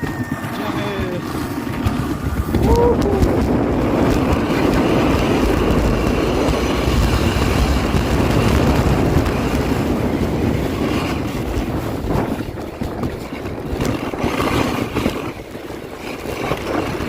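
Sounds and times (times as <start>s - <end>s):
sledge runners scraping over snow: 0.0s - 17.0s.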